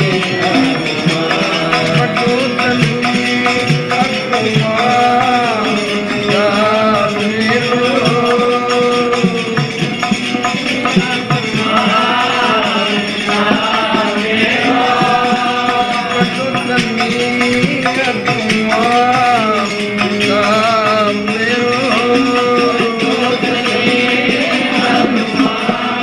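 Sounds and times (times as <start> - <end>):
person singing a hymn: 0.0 - 26.0.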